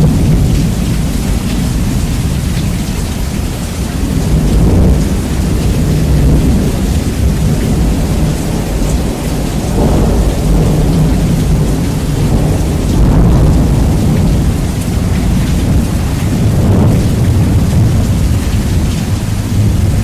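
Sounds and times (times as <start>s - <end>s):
heavy rain: 0.0s - 20.0s
rolling thunder: 0.0s - 20.0s.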